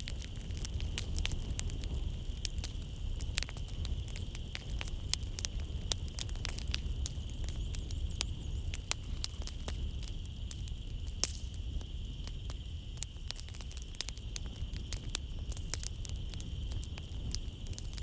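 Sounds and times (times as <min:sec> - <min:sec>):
wood fire crackling: 0:00.0 - 0:18.0
night insects chirring: 0:00.1 - 0:18.0.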